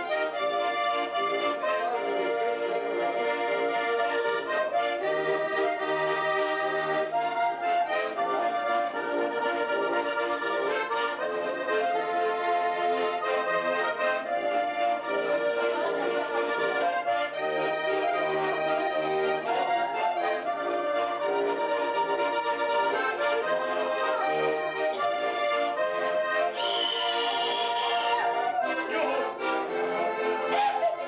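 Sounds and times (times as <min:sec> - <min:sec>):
accordion music: 0:00.0 - 0:31.0.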